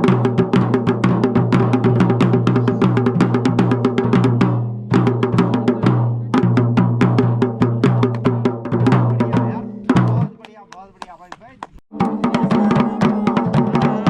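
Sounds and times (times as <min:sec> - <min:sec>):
drums playing a fast rhythm: 0:00.0 - 0:14.0.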